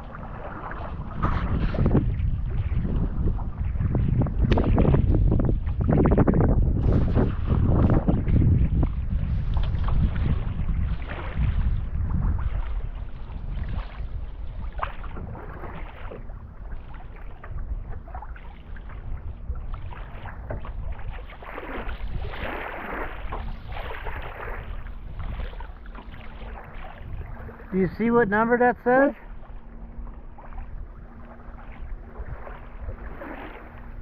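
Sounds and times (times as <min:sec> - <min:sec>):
water splashing against boat hull: 0:00.0 - 0:34.0
wind buffeting microphone: 0:00.0 - 0:34.0.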